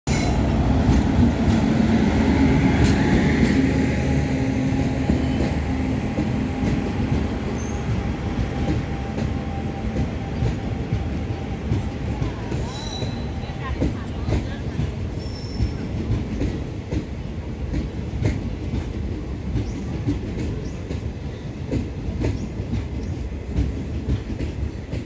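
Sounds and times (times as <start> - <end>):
train wheels rumbling on rails: 0.1 - 25.0.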